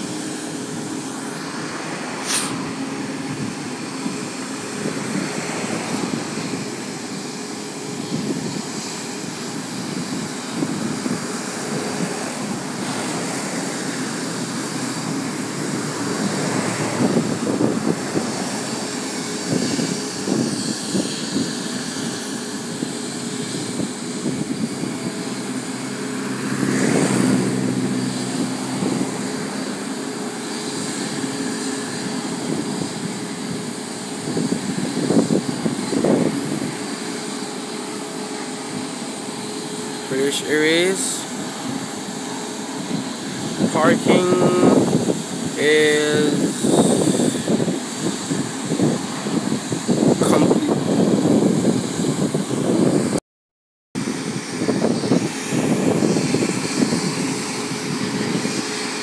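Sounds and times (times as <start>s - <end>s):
jet engines idling: 0.0s - 53.2s, 54.0s - 59.0s.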